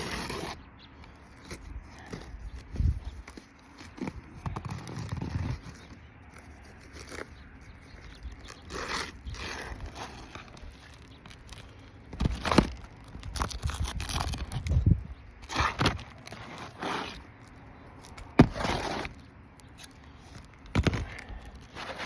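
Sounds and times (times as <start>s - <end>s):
shingles scraping and crackling: 0.0s - 0.6s, 1.3s - 7.4s, 8.4s - 14.8s, 15.4s - 19.2s, 19.8s - 22.0s.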